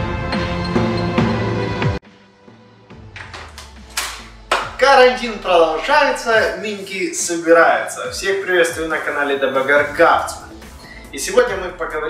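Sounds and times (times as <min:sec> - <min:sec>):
quiet background music: 0:02.0 - 0:12.0.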